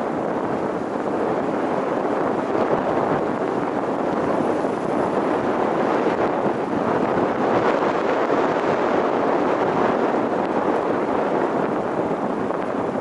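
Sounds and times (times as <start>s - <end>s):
vehicle road and wind noise: 0.0s - 13.0s.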